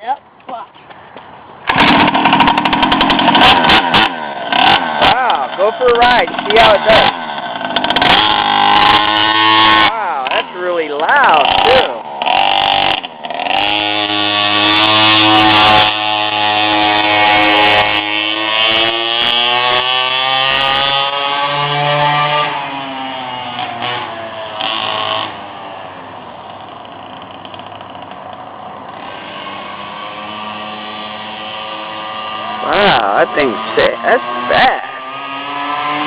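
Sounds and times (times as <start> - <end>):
small motorbike engine revving: 1.6 - 36.0.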